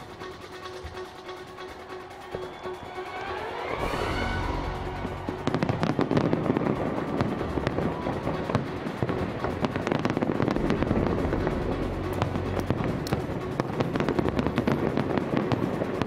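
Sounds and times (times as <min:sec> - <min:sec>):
fireworks bangs and crackles: 0:00.0 - 0:16.0
steady music: 0:00.0 - 0:16.0.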